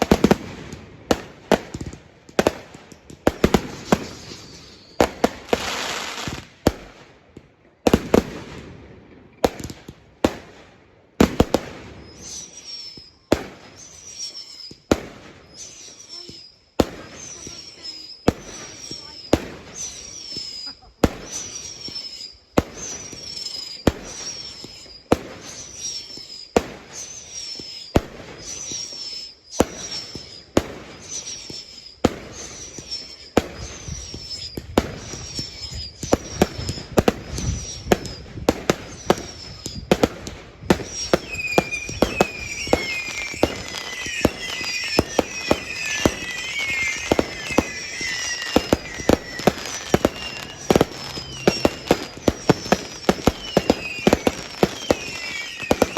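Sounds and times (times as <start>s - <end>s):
fireworks falling whistle: 0.0s - 6.9s, 11.2s - 55.9s
fireworks banging: 0.0s - 55.9s
low fireworks whistles: 0.0s - 55.9s.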